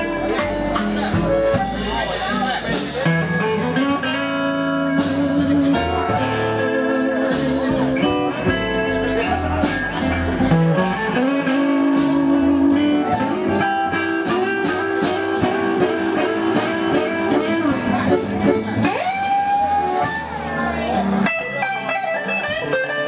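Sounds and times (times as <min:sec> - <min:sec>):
drums: 0:00.0 - 0:23.0
electric guitar lead: 0:00.0 - 0:23.0
upright bass: 0:00.0 - 0:23.0.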